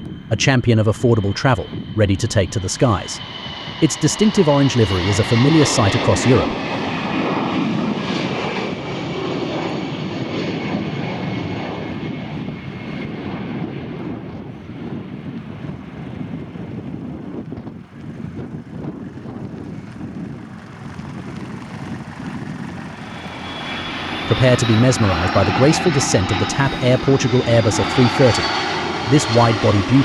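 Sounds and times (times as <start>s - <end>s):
jet engines taking off: 0.0s - 30.0s.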